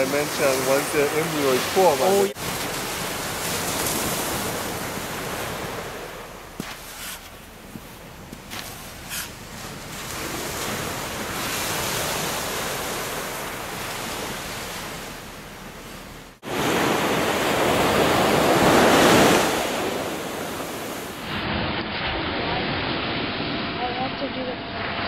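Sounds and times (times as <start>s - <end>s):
surf washing onto beach: 0.0s - 24.1s.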